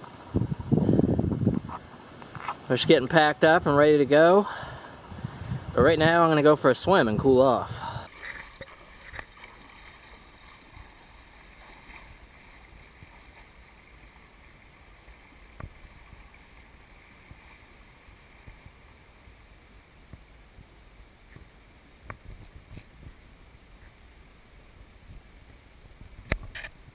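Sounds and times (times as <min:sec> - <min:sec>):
light wind: 0:00.0 - 0:26.9
moving water: 0:00.0 - 0:26.9.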